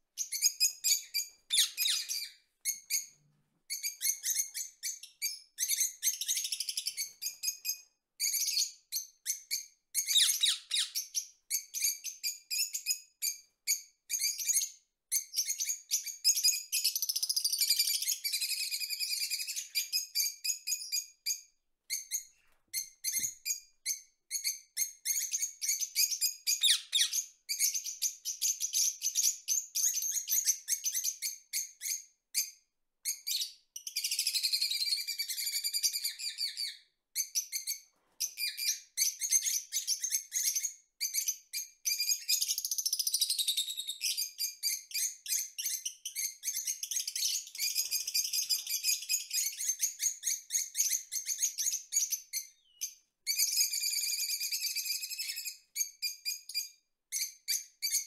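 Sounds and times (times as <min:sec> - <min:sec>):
parrots chirping and chattering: 0:00.2 - 0:03.1, 0:03.7 - 0:07.6, 0:10.0 - 0:12.1, 0:15.4 - 0:21.0, 0:23.0 - 0:32.0, 0:33.0 - 0:58.0.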